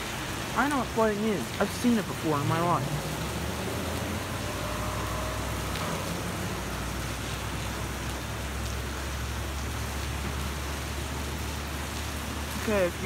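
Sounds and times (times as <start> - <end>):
heavy rain on pavement: 0.0 - 13.0.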